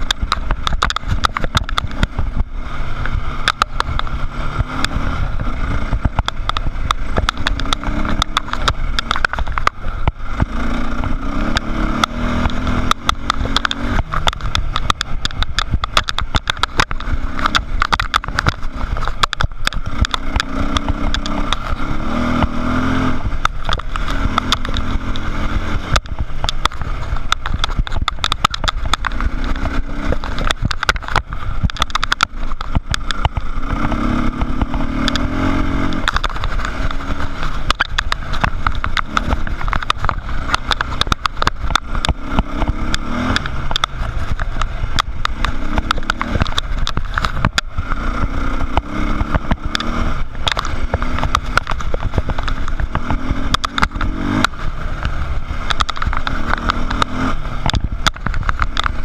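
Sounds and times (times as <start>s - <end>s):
dirt bike engine running hard: 0.0s - 59.0s
wind buffeting on camera: 0.0s - 59.0s.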